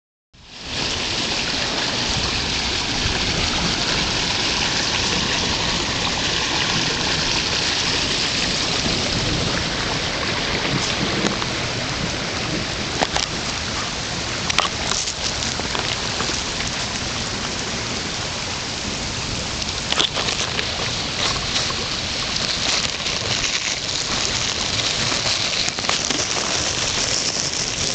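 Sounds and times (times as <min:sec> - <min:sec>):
rain hissing: 0:00.4 - 0:27.9
running floodwater: 0:00.4 - 0:27.9.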